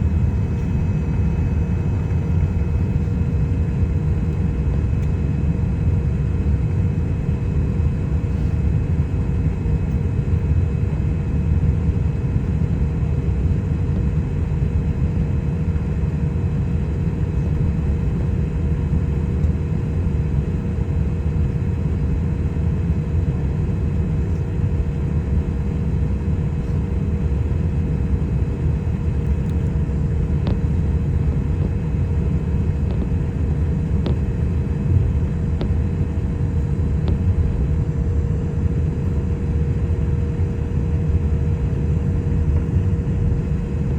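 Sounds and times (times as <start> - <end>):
constant engine hum: 0.0 - 43.9
jet engines low rumble: 0.0 - 43.9.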